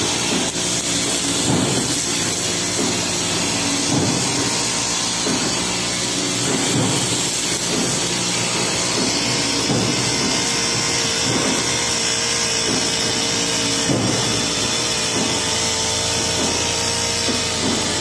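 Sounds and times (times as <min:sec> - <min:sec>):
blade cutting tall grass: 0:00.0 - 0:18.0
brush cutter engine running: 0:00.0 - 0:18.0.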